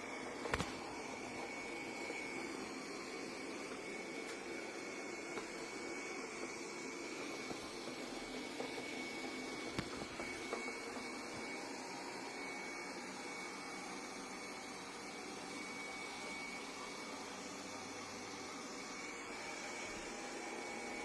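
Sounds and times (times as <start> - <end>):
robot vacuum cleaner whirring: 0.0 - 21.0.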